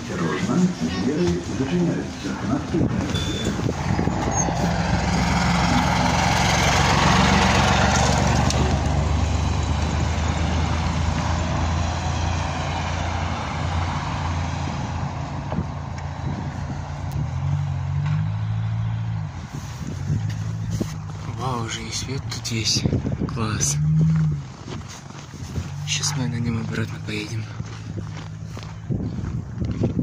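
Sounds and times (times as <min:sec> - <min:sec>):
road and tyre noise: 0:00.0 - 0:30.0
trolleybus electric hum: 0:00.0 - 0:30.0.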